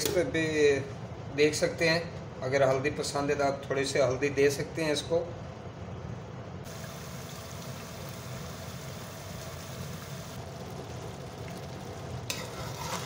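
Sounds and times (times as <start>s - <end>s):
gas stove rumble and hiss: 0.0s - 13.0s.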